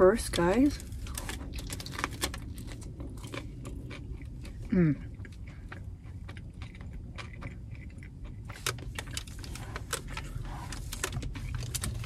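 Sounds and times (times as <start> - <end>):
low steady hum: 0.0 - 12.0
wet chewing clicks and smacks: 0.8 - 12.0.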